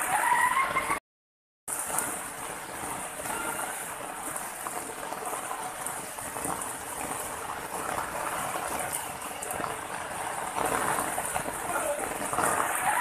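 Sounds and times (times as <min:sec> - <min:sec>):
water running over rocks: 0:01.7 - 0:13.0.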